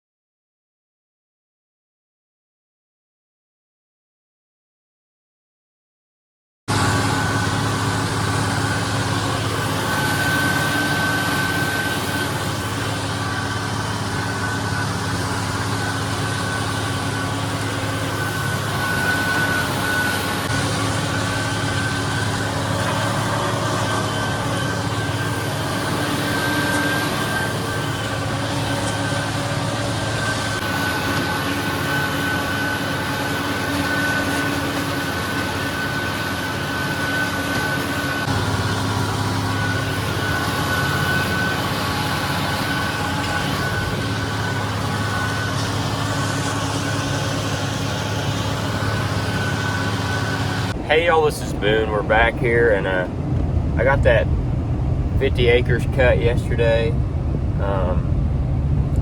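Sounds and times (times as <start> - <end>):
high whine: 6.7 - 59.0
tractor engine drone: 6.7 - 59.0.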